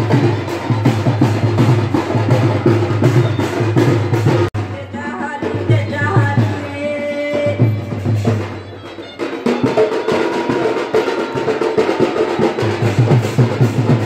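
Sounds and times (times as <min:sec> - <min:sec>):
folk drum ensemble: 0:00.0 - 0:14.0.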